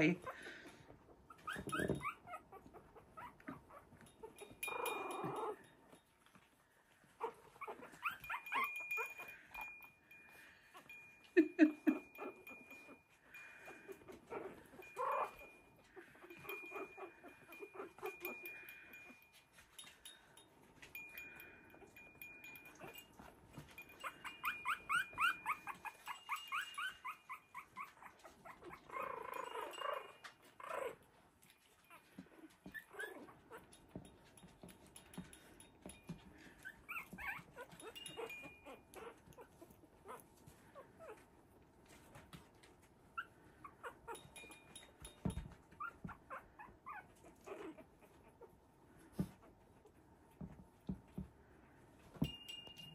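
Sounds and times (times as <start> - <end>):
puppies crying and squeaking: 0.1 - 51.2.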